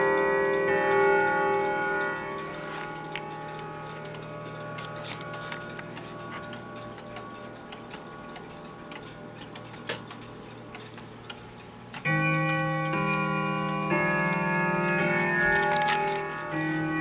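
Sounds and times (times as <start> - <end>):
clock chime notes: 0.0 - 10.8, 11.7 - 17.0
grandfather clock ticking: 0.0 - 17.0.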